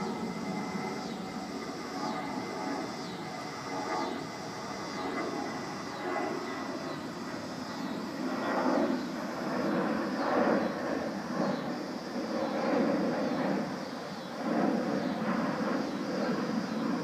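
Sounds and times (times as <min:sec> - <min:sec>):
model airplane propeller buzzing: 0:00.0 - 0:17.0.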